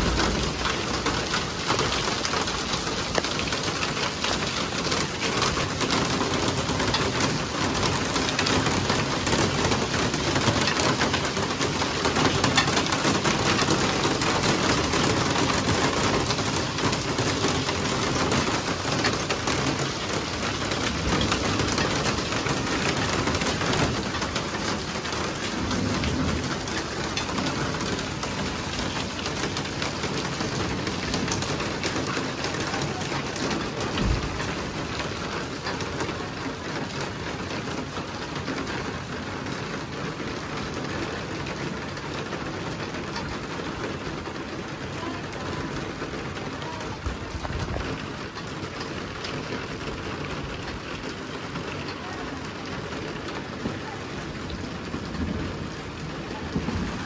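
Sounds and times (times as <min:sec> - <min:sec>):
heavy rain on concrete: 0:00.0 - 0:57.0.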